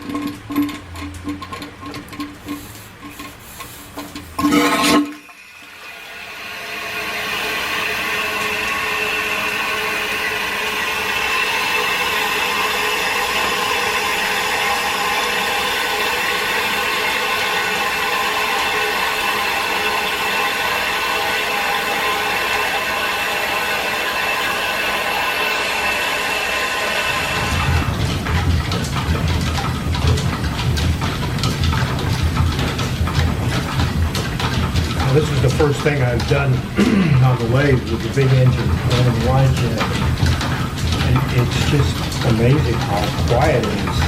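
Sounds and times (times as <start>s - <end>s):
belted machinery running: 0.0s - 44.0s.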